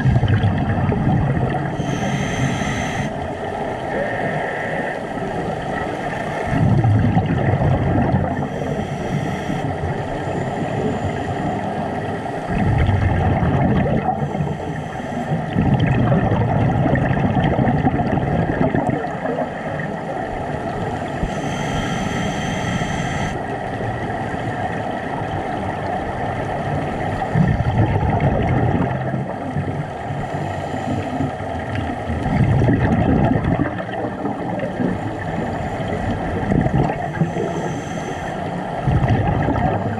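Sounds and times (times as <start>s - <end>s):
underwater bubbles rumbling: 0.0s - 21.6s, 23.2s - 39.9s
underwater hiss and hum: 0.0s - 39.9s.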